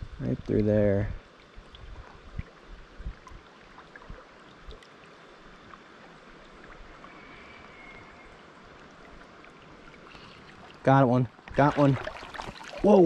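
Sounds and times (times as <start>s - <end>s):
river water flowing past rocks: 1.2s - 13.0s.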